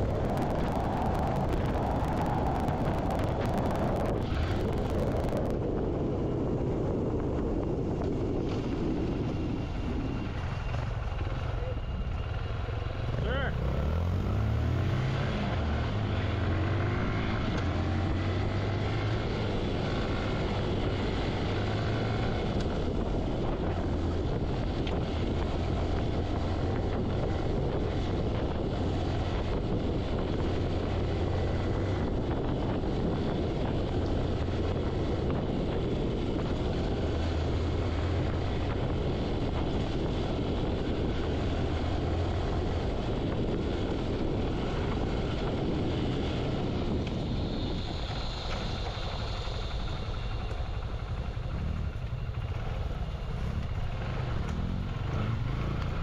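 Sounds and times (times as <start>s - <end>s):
wind buffeting microphone: 0.0s - 12.2s, 13.9s - 56.0s
motorcycle engine running: 0.0s - 56.0s.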